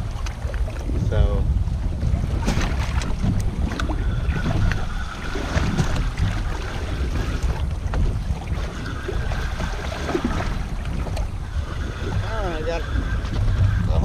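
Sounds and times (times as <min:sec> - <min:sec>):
water lapping around boat: 0:00.0 - 0:14.0
wind rumbling on microphone: 0:00.0 - 0:14.0.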